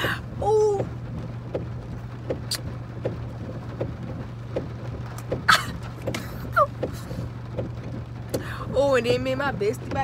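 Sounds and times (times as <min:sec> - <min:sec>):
low car cabin hum: 0:00.0 - 0:10.0.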